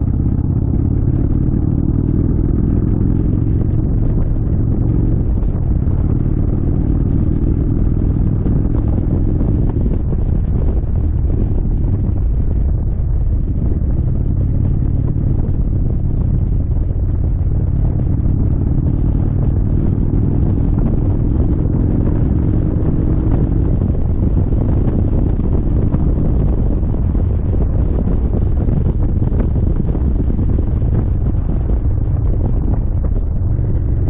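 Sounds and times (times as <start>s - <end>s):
motorcycle engine cruising: 0.0s - 34.0s
wind buffeting microphone: 0.0s - 34.0s.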